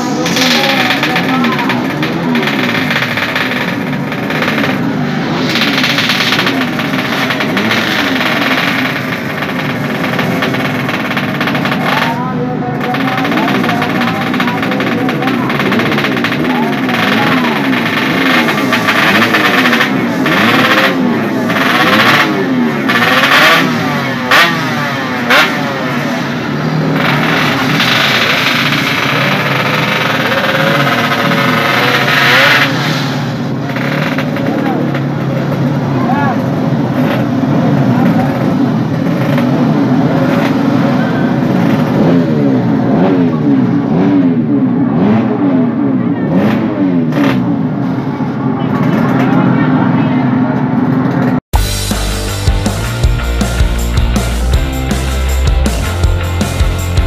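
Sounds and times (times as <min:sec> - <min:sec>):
engine sharp cracks: 0:00.0 - 0:45.4, 0:46.3 - 0:57.0
two-stroke engine revving: 0:00.0 - 0:57.0.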